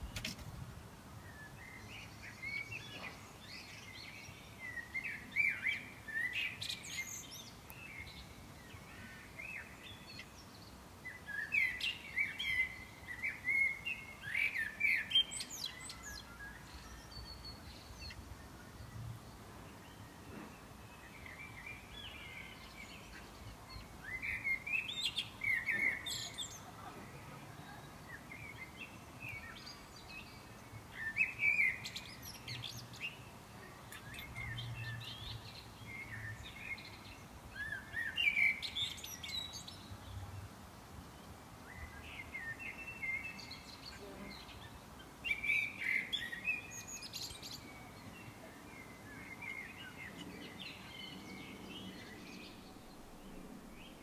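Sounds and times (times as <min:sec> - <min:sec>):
songbird chirping: 0:00.0 - 0:54.0
steady background hiss: 0:00.0 - 0:54.0.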